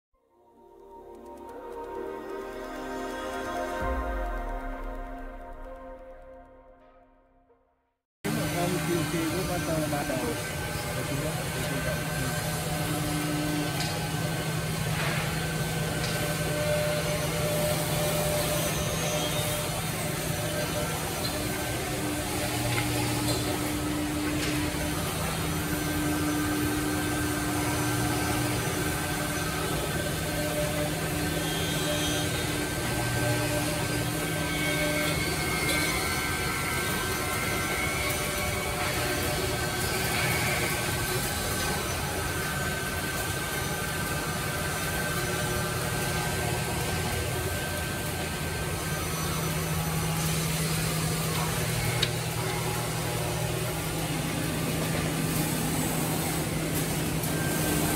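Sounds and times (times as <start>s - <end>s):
mortising machine humming: 8.2s - 57.9s.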